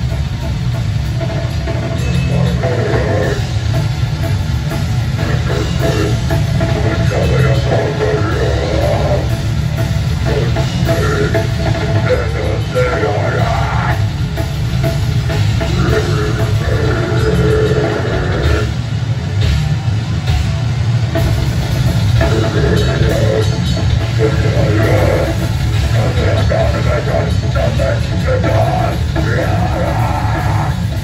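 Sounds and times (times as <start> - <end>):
bass guitar: 0.0 - 31.0
drum kit: 0.0 - 31.0
electric guitar: 0.0 - 31.0.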